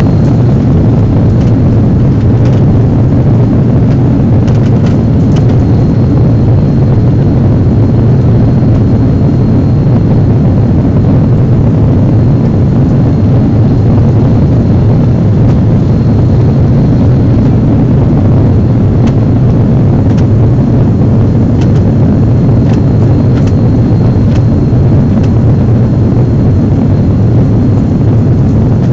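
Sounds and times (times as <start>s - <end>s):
aircraft engine and airflow drone: 0.0s - 28.9s.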